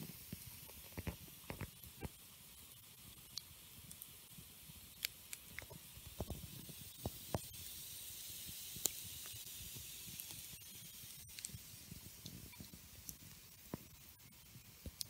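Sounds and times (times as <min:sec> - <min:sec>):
campfire crackling and popping: 0:00.0 - 0:15.0
soft fire hiss: 0:00.0 - 0:15.0.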